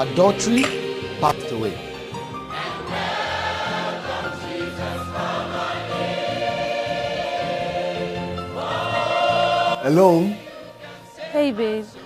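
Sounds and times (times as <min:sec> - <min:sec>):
choir singing gospel song: 0:00.0 - 0:12.0.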